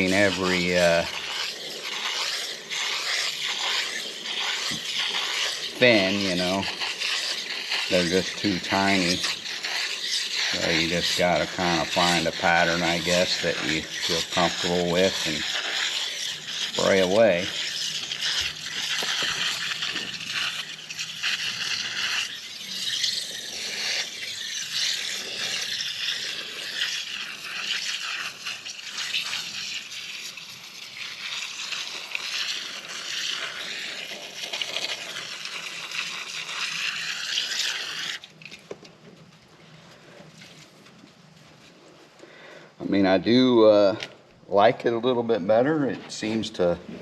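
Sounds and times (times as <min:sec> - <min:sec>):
aerosol spray hissing: 0:00.0 - 0:38.1.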